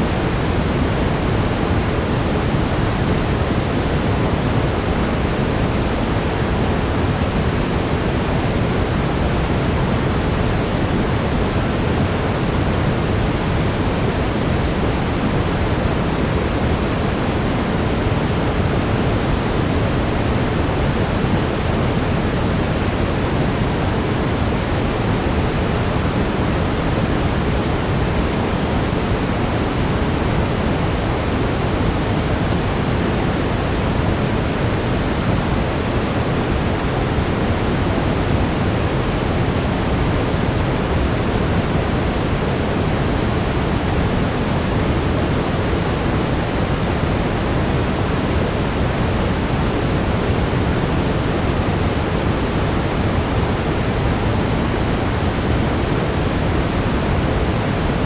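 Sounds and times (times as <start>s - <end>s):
brown noise: 0.0s - 58.0s.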